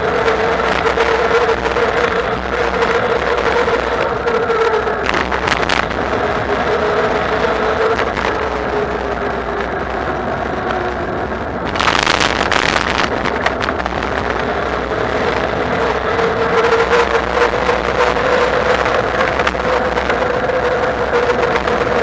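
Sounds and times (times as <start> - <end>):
electric bike motor whine: 0.0 - 22.0
wind and road noise: 0.0 - 22.0.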